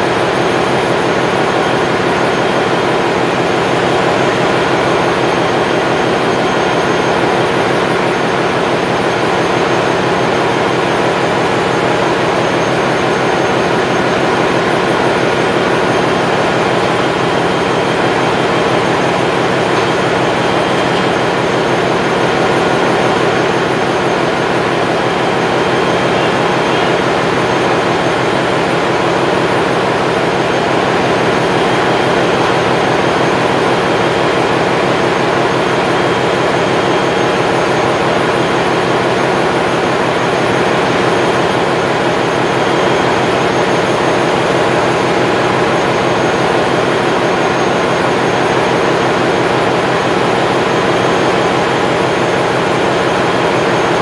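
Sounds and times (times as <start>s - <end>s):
engine room machinery din: 0.0s - 54.0s
faint steady machine whines: 0.0s - 54.0s.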